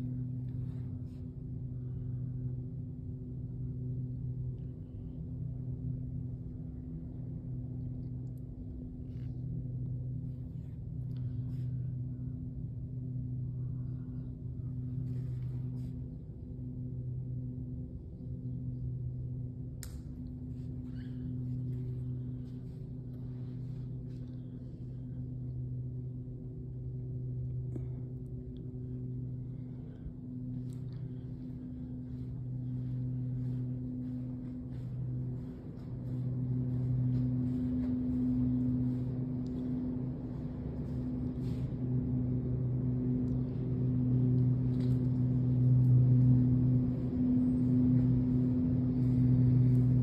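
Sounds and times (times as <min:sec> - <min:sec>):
low hum: 0:00.0 - 0:50.0.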